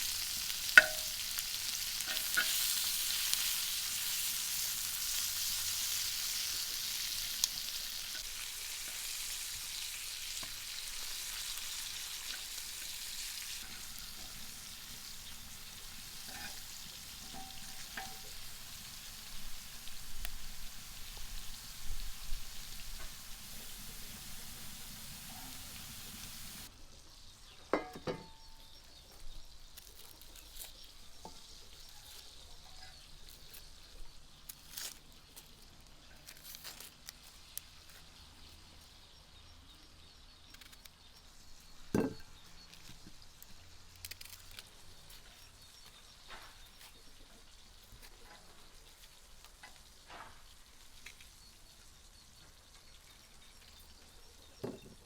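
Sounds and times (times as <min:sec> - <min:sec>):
food sizzling on hot metal: 0:00.0 - 0:55.0.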